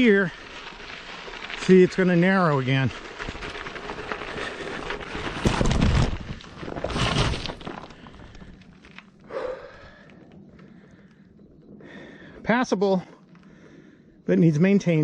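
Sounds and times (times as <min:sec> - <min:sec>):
bike tyres crunching on gravel: 0:00.0 - 0:15.0.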